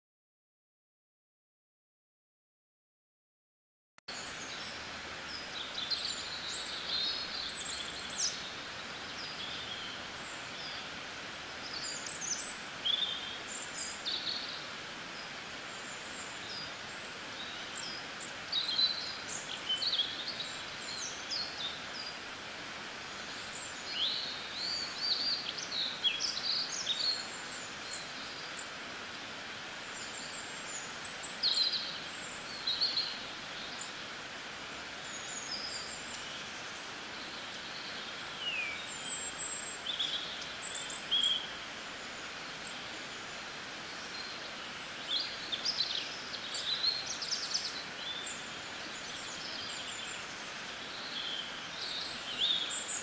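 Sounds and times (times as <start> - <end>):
background hiss: 4.1 - 53.0
small birds chirping: 4.1 - 53.0.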